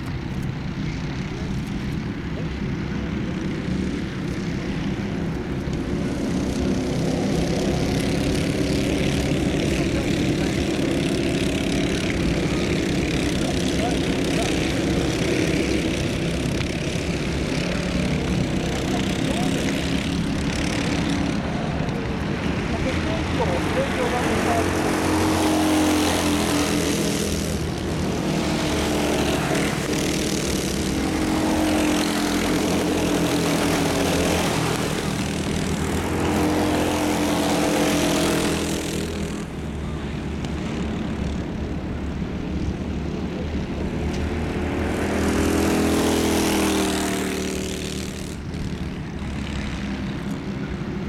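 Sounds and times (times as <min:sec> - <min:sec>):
kart engines running hard: 0:00.0 - 0:51.0.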